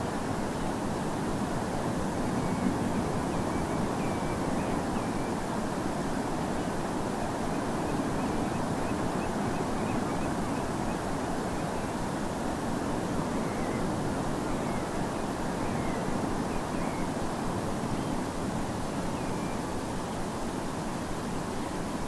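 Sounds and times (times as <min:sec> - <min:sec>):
distant surf: 0:00.0 - 0:22.0.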